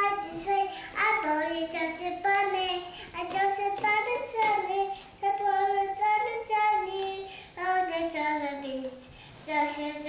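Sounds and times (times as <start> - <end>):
girl singing: 0.0 - 10.0.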